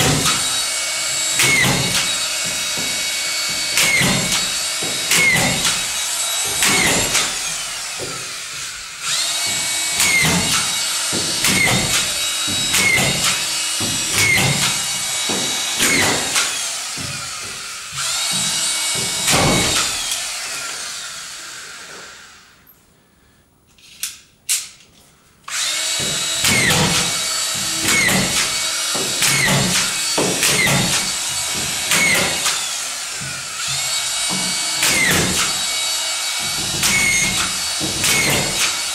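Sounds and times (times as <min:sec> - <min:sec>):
power screwdriver driving screws: 0:00.1 - 0:21.0, 0:25.5 - 0:38.9.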